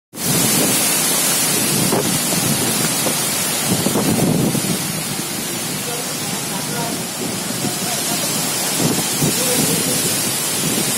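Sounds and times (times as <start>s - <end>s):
heavy rain hissing: 0.2s - 10.9s
wind buffeting microphone: 0.2s - 10.9s
wind gusting through palm trees: 0.2s - 10.9s.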